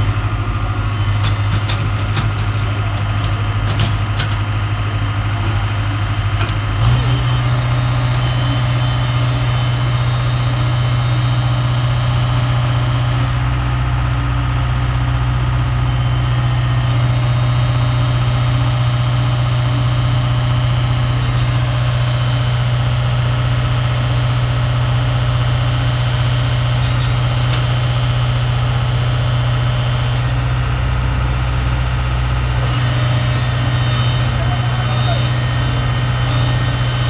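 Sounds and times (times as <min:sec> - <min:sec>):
excavator diesel engines droning: 0:00.0 - 0:37.0.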